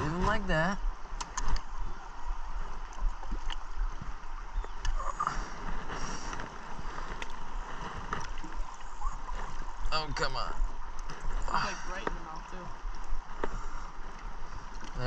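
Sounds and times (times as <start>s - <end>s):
water against metal boat hull: 0.0s - 15.0s
wind noise: 0.0s - 15.0s.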